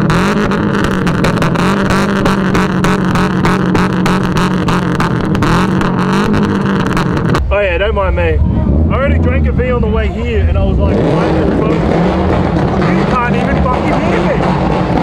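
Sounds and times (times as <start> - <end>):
car engine at high rev: 0.0 - 7.5, 8.3 - 15.0
exhaust pops crackling: 0.0 - 8.2, 10.5 - 15.0.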